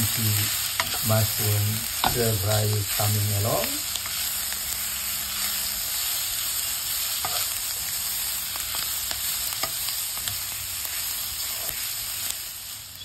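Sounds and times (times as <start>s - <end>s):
stir-fry sizzling in a wok: 0.0s - 13.0s.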